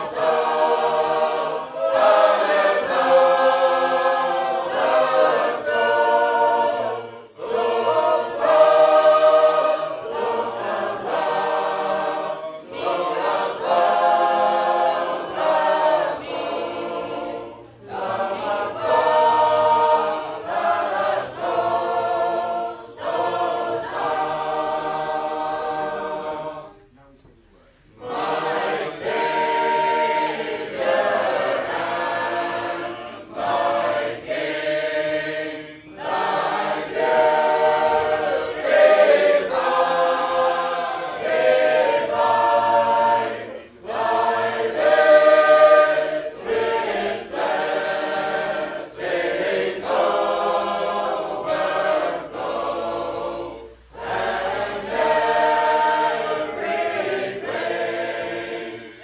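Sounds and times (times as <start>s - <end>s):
choir singing unaccompanied: 0.0s - 27.0s, 27.8s - 59.0s.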